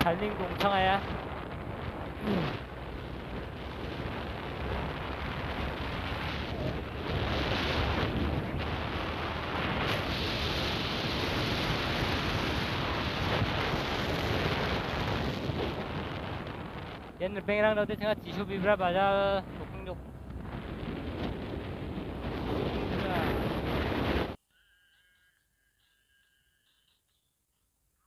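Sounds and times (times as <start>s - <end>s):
wind rushing over microphone: 0.0s - 24.4s.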